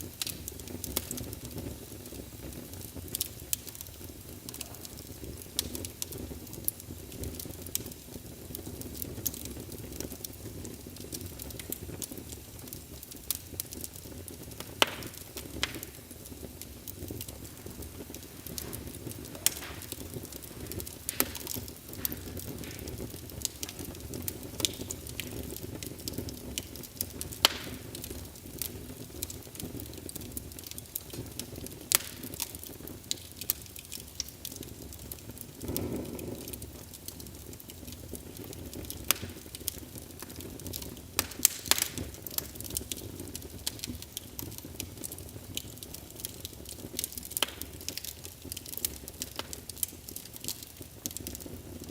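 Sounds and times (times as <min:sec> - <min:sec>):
low rumble of flame: 0:00.0 - 0:51.9
wood fire crackling and popping: 0:00.0 - 0:51.9.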